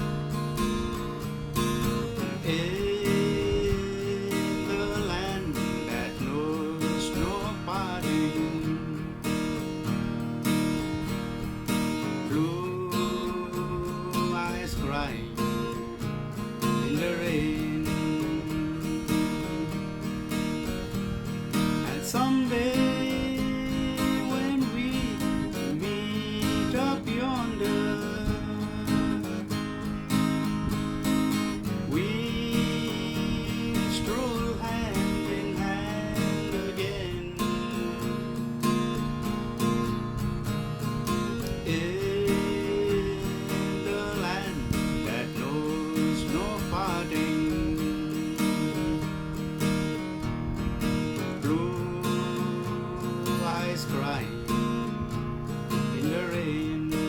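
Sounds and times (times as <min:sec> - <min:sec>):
acoustic guitar strumming: 0:00.0 - 0:57.0
sliding lead guitar melody: 0:00.0 - 0:57.0.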